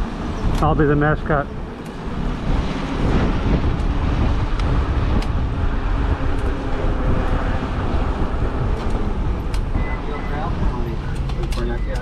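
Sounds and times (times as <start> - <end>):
wind on microphone: 0.0 - 11.9
street traffic: 0.0 - 12.0.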